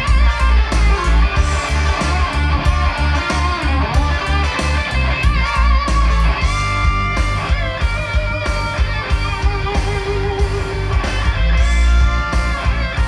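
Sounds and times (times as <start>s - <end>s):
loud music with guitar and bass: 0.0s - 13.0s.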